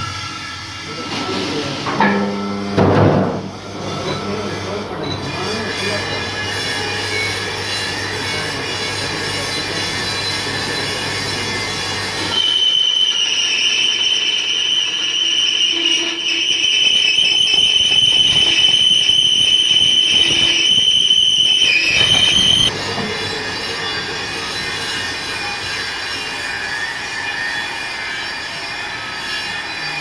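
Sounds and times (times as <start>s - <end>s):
metal lathe running: 0.0s - 30.0s
cutting tool squealing on steel: 3.6s - 30.0s.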